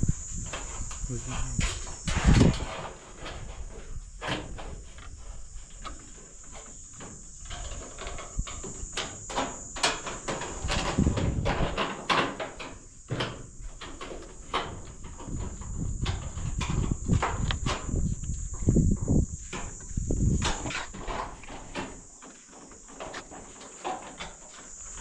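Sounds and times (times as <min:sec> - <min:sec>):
knocks and handling clatter: 0:00.5 - 0:25.0.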